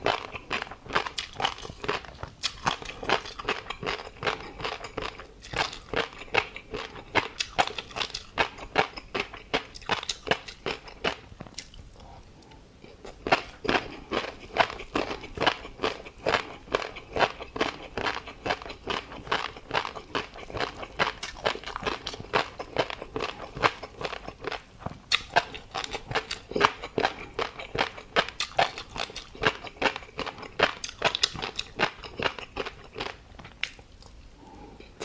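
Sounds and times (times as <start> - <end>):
chewing crunchy food: 0.0 - 35.0.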